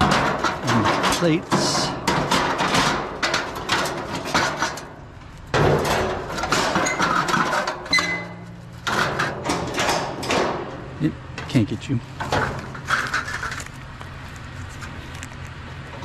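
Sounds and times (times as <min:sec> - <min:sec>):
scrap metal clanking and rattling: 0:00.0 - 0:15.0.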